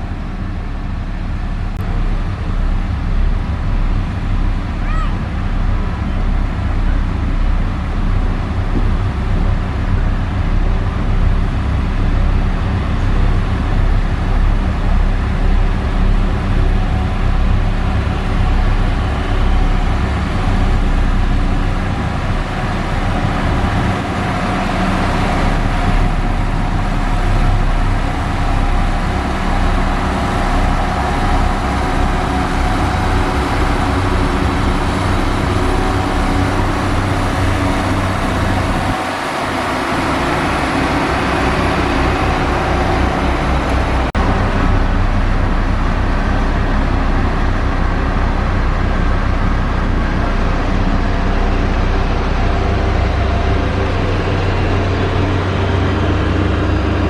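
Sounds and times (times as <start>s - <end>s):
heavy machinery diesel engine running: 0.0s - 57.0s.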